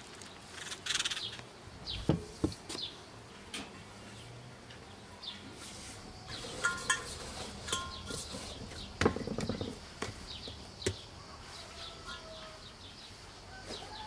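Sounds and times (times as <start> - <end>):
birds chirping: 0.2 - 3.1, 4.1 - 14.0.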